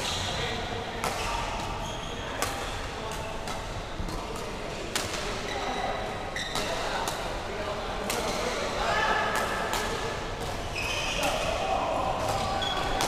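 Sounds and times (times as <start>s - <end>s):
court shoes squeaking: 0.0s - 7.2s, 9.7s - 13.0s.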